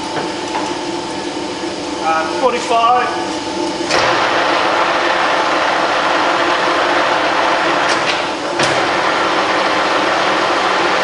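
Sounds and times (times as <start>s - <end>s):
lathe gearing whirring: 0.0s - 11.0s.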